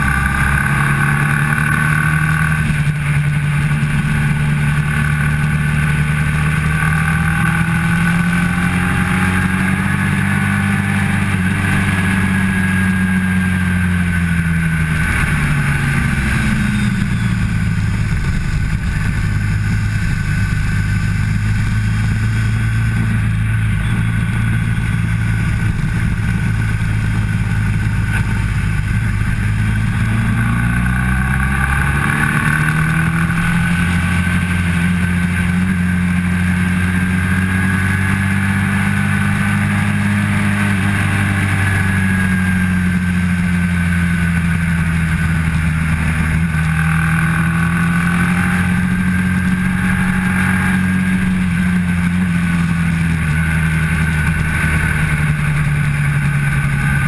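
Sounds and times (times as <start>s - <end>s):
motorcycle engine running hard: 0.0s - 57.0s.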